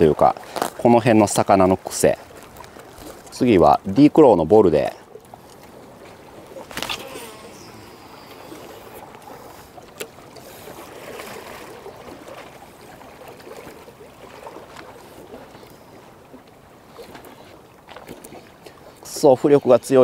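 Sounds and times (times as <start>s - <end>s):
water lapping at shoreline: 0.0s - 20.0s.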